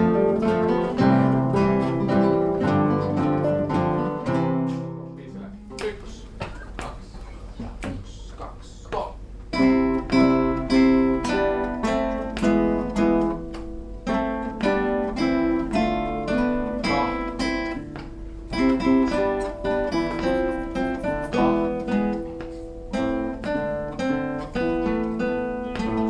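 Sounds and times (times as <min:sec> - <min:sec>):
acoustic guitar music: 0:00.0 - 0:07.8, 0:09.2 - 0:26.0.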